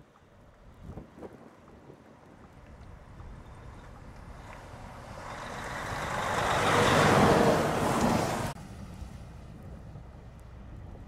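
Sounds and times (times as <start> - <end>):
vehicle passing on snowy road: 0.5 - 11.0.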